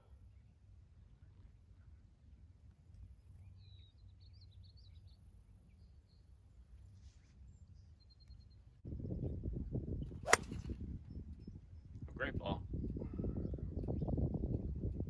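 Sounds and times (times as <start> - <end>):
faint low outdoor rumble: 0.0 - 15.0.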